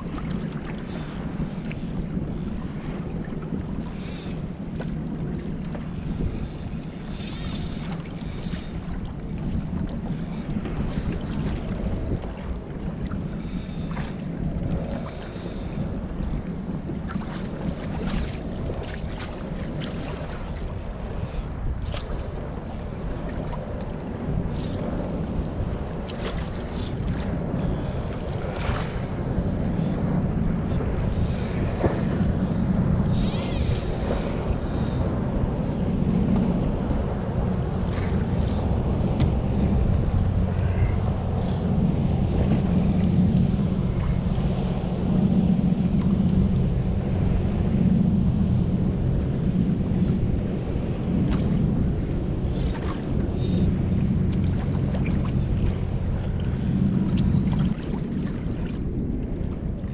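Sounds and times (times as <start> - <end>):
water splashing against hull: 0.0 - 59.9
wind buffeting microphone: 0.0 - 59.9.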